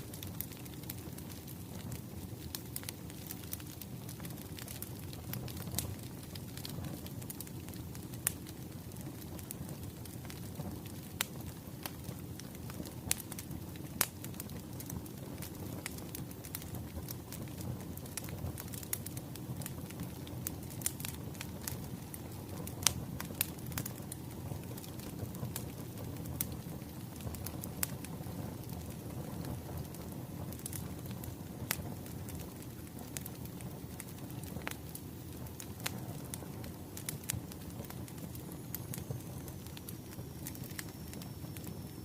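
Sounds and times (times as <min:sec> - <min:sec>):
flames rumbling: 0:00.0 - 0:42.0
firewood popping and snapping: 0:00.1 - 0:42.0.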